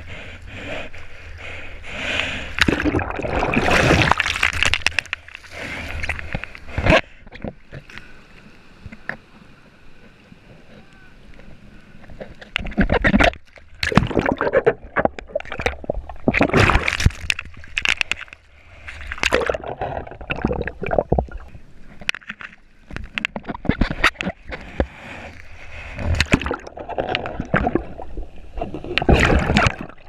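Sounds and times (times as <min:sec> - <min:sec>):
sea water splashing and sloshing: 0:00.9 - 0:30.0.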